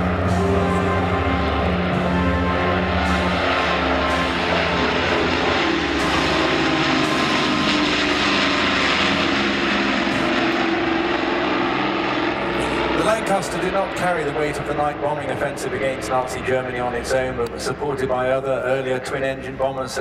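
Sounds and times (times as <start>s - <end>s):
aircraft piston engines droning: 0.0s - 20.0s.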